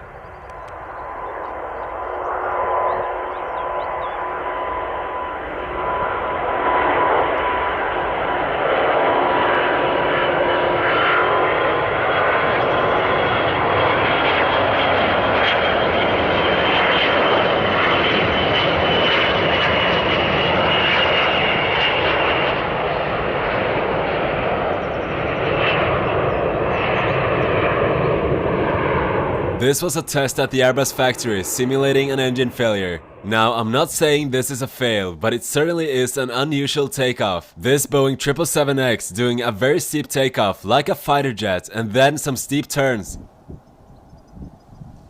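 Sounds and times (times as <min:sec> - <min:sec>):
high jet engine whine: 0:00.0 - 0:45.0
jet engine roaring at takeoff: 0:00.0 - 0:45.0.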